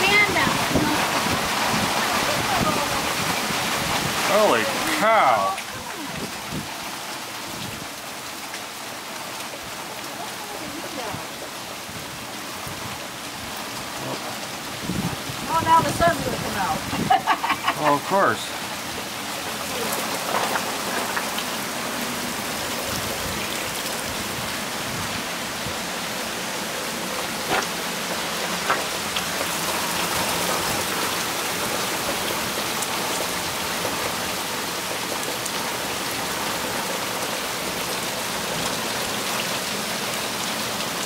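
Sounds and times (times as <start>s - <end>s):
heavy rain and hail falling: 0.0s - 41.0s.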